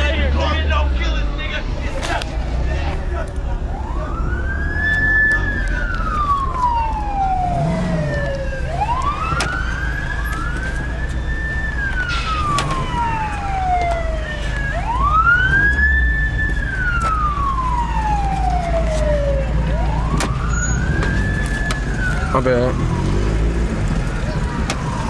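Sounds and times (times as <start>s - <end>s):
emergency sirens wailing: 0.0s - 25.0s
moving car rumble: 0.0s - 25.0s.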